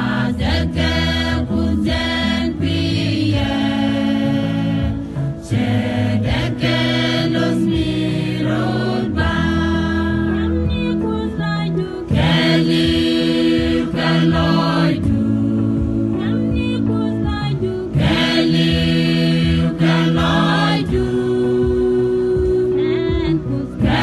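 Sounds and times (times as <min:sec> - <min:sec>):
mixed choir singing: 0:00.0 - 0:24.0.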